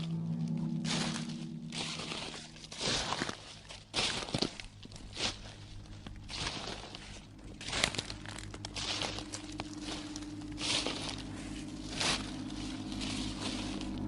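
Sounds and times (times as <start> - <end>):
crunching and rustling noises: 0.0 - 14.0
low steady drone: 0.0 - 14.0.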